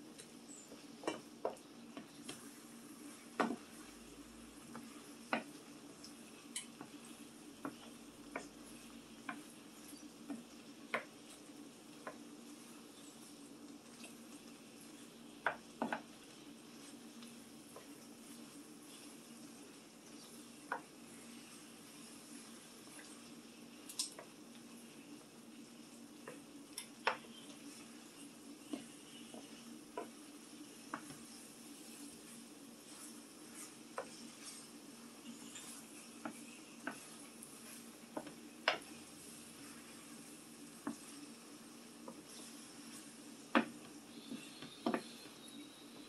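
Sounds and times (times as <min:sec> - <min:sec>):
light clicks and taps from pan: 0:00.1 - 0:02.6, 0:03.2 - 0:04.0, 0:04.6 - 0:25.0, 0:25.6 - 0:41.4, 0:42.0 - 0:45.4.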